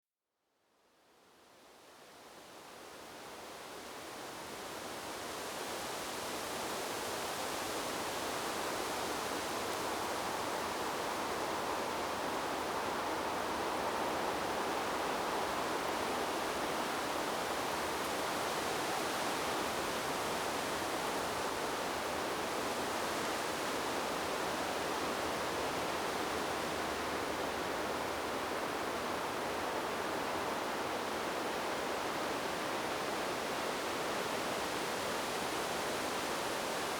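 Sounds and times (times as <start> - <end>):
wind rustling tree leaves: 2.3 - 36.9.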